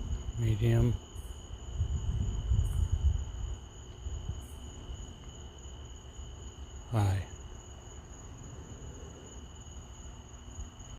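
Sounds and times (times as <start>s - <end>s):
crickets trilling: 0.0s - 10.9s.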